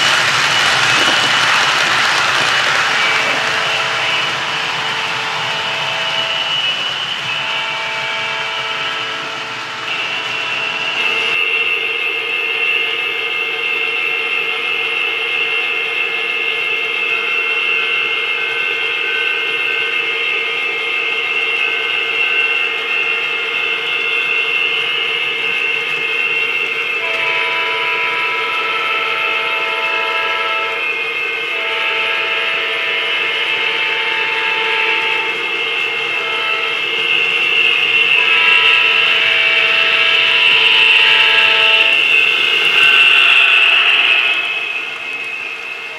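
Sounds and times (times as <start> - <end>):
model locomotive horn: 0.0 - 45.9
model train running: 0.0 - 45.9.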